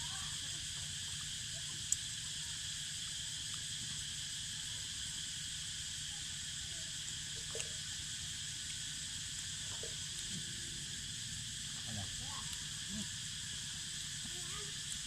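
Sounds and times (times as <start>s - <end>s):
cicadas buzzing in chorus: 0.0s - 15.0s.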